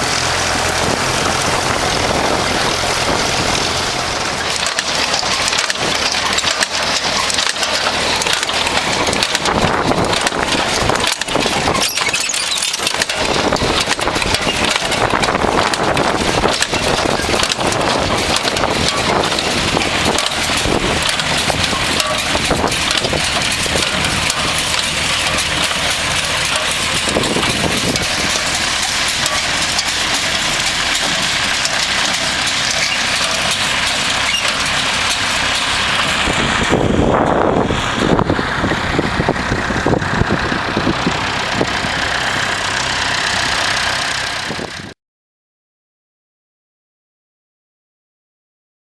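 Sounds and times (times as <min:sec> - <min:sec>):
wind noise on microphone: 0:00.0 - 0:06.9, 0:08.4 - 0:31.7, 0:33.6 - 0:42.6, 0:44.3 - 0:45.0
tractor engine running: 0:00.0 - 0:45.0.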